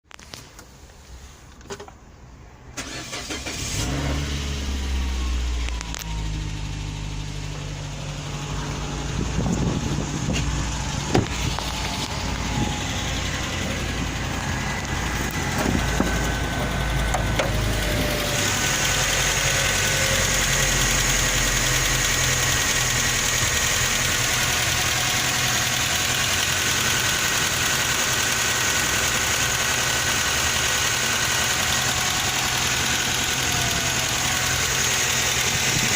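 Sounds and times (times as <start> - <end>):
car engine starting and idling: 0.1 - 35.9.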